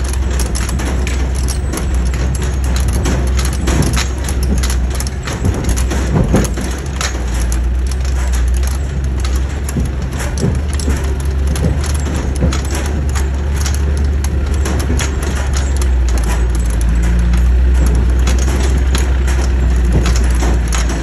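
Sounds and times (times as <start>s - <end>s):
knocks and rattles: 0.0s - 21.0s
truck engine drone: 0.0s - 21.0s.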